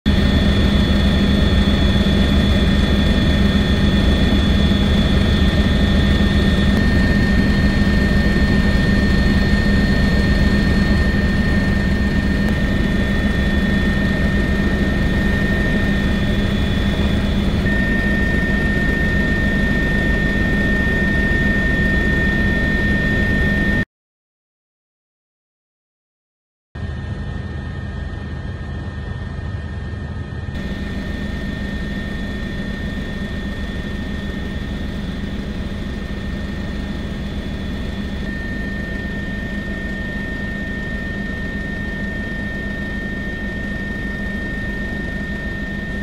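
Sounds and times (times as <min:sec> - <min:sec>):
helicopter engine rumble: 0:00.1 - 0:23.8, 0:26.8 - 0:46.0
high-pitched whining tones: 0:00.1 - 0:23.8, 0:30.6 - 0:46.0.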